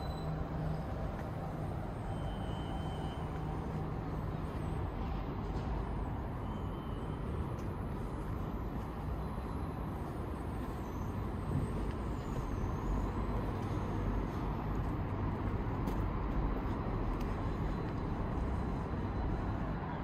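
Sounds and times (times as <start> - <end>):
heavy vehicle engine: 0.0 - 20.0
traffic rumble: 0.0 - 20.0.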